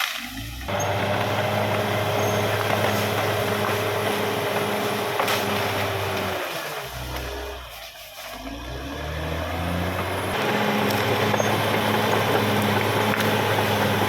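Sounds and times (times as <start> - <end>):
bulldozer diesel engine running: 0.2 - 14.0.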